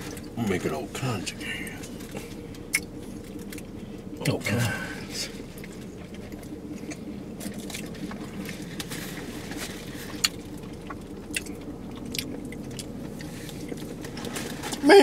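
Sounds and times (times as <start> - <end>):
low car cabin hum: 0.0 - 15.0.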